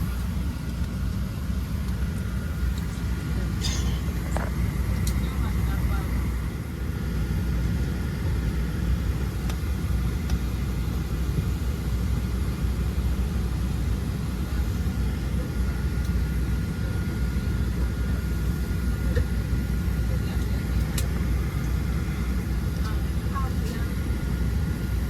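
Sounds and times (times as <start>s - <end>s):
aircraft cabin air system rumble: 0.0s - 25.0s
faint steady whine: 0.0s - 25.0s.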